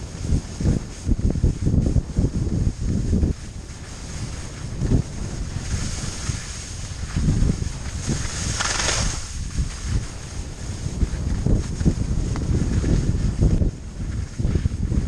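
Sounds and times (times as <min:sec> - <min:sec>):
skis hissing over snow: 0:00.0 - 0:15.0
wind buffeting microphone: 0:00.0 - 0:15.0.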